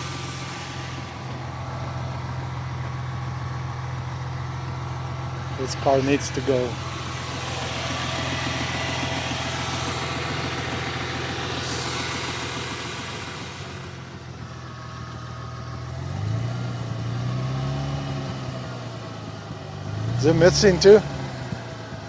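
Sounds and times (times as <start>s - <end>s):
car engine idling: 0.0s - 22.0s
rapid engine ticking: 0.0s - 22.0s.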